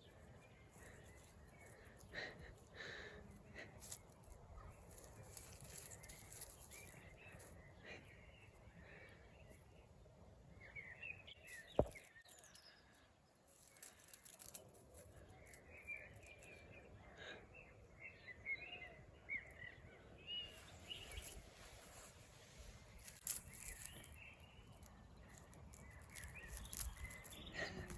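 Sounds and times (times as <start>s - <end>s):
faint outdoor background noise: 0.0s - 27.9s
small birds chirping: 0.0s - 27.9s.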